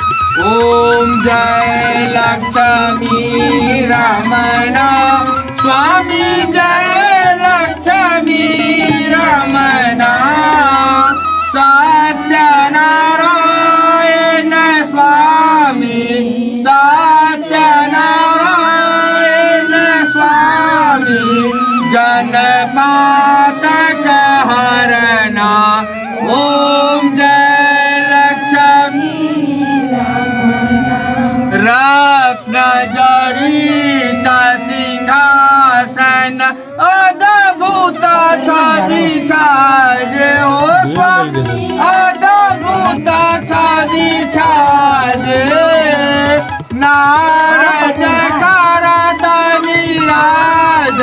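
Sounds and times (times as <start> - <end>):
musical accompaniment: 0.0 - 16.0, 16.6 - 51.0
solo voice singing devotional song: 0.4 - 51.0.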